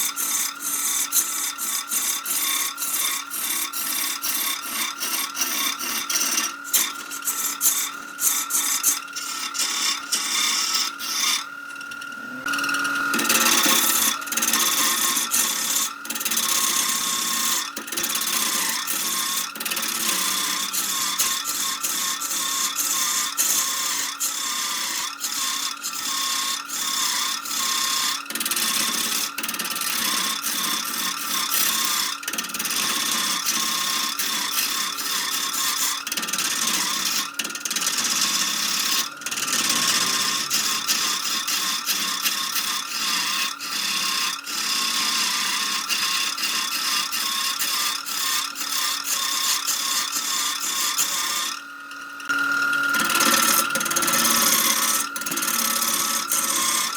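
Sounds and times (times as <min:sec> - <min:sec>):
lathe motor whine: 0:00.0 - 0:56.9
lathe tool scraping wood: 0:00.0 - 0:56.9.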